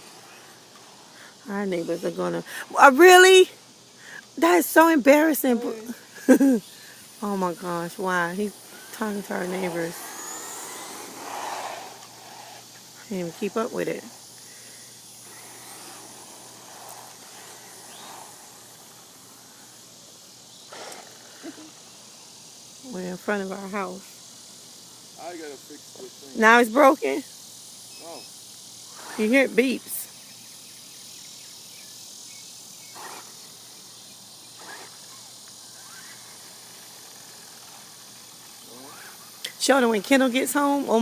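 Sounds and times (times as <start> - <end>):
faint outdoor hiss: 0.0 - 41.0
insects chirring: 0.0 - 41.0.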